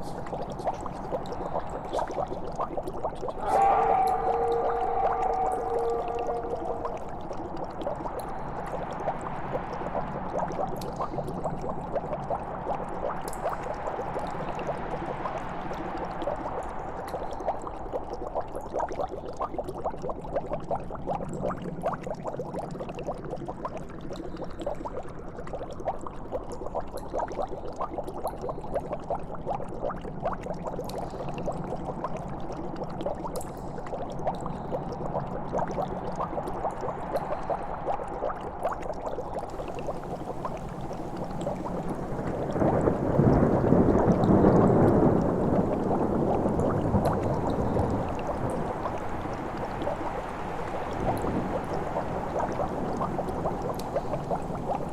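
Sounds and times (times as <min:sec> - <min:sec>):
liquid bubbling and gurgling: 0:00.0 - 0:54.9.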